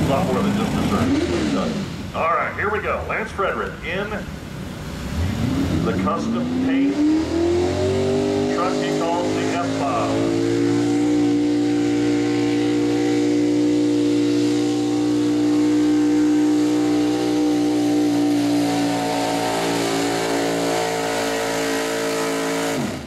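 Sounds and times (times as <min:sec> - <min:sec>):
truck engine running at high rpm: 0:00.0 - 0:23.0.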